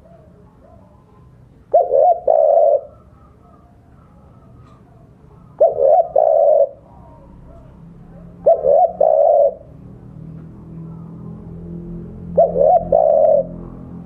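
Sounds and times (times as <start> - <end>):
dove cooing: 0.0 - 9.8, 12.2 - 14.0.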